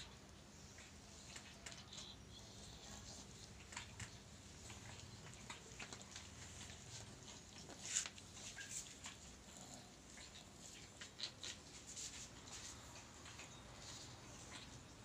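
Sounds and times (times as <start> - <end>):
cats rustling on a towel: 0.0 - 15.0.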